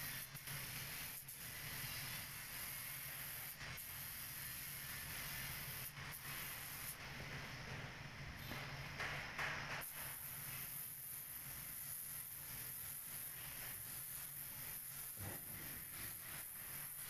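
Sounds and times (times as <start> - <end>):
paint spray gun hissing: 0.0 - 7.8, 8.4 - 17.0.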